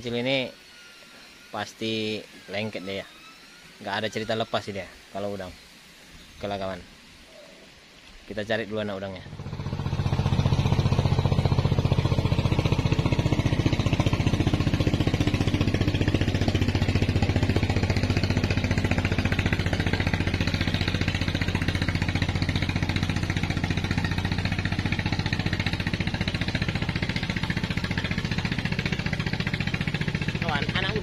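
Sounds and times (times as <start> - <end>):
small engine running: 0.0 - 7.6, 8.8 - 31.0.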